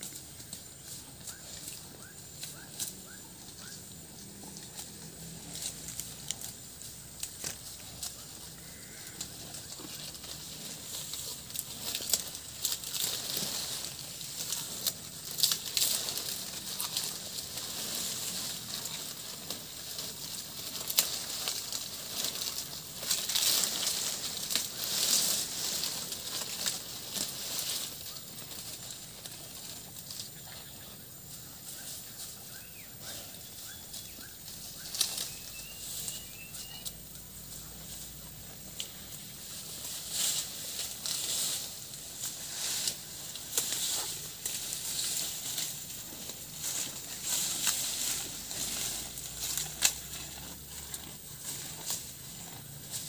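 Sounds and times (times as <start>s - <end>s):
cow tearing grass: 0.0s - 30.6s, 31.2s - 53.0s.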